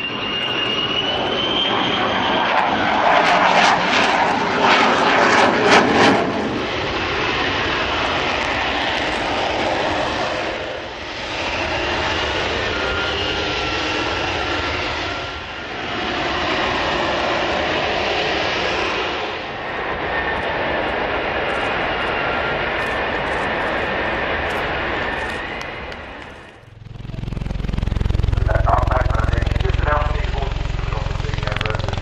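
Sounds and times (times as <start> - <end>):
jet engine roaring with high whine: 0.0 - 32.0.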